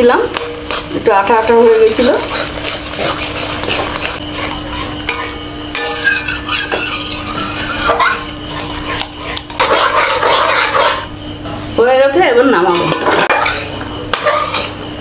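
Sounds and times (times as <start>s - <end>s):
metal ladle scraping a pan: 0.4s - 11.1s, 12.8s - 14.8s.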